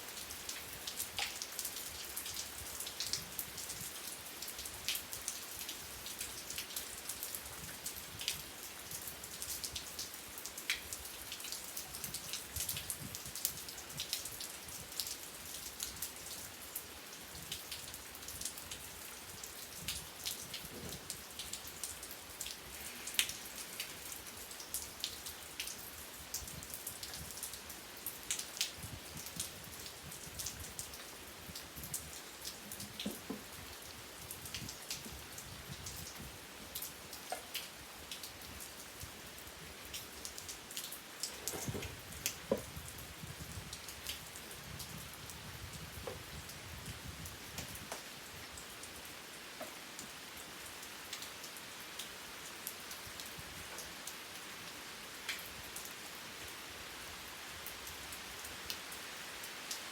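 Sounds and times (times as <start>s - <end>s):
rain pattering on hard surface: 0.0s - 59.9s.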